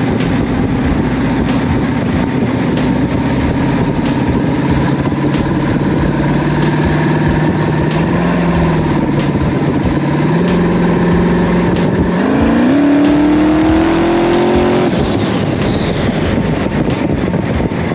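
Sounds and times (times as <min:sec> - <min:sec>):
truck engine revving: 0:00.0 - 0:17.9.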